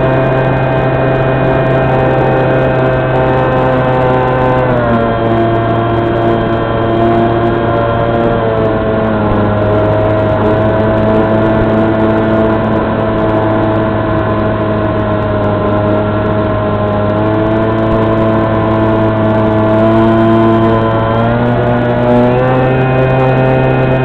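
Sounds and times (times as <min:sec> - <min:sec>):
electric motor and propeller hum: 0:00.0 - 0:24.0.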